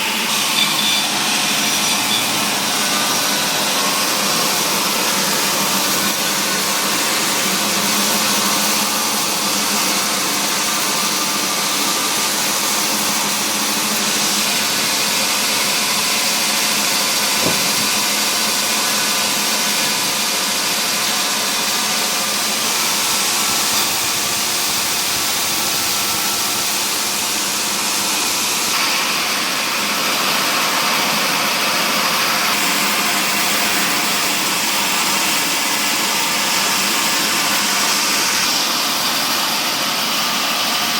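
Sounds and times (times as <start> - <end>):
mill machinery droning: 0.0 - 40.9.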